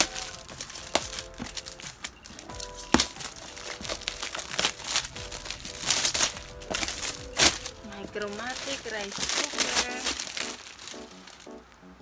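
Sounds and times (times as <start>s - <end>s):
paper ripping: 0.0s - 11.6s
wrapping paper crinkling: 0.0s - 11.9s.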